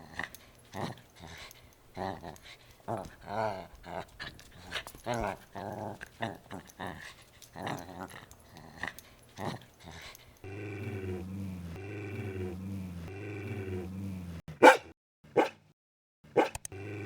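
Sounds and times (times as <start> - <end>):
dog growling: 0.0 - 15.5, 16.3 - 17.0
dog barking and snarling: 0.0 - 17.0.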